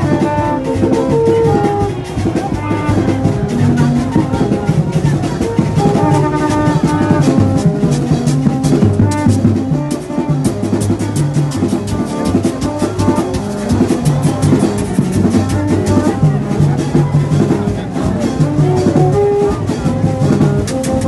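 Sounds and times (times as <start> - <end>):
drums and percussion beat: 0.0 - 21.0.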